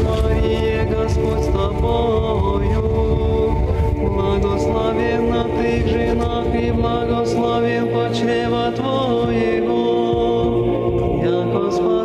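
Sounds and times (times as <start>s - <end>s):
women singing a hymn a cappella: 0.0s - 12.0s.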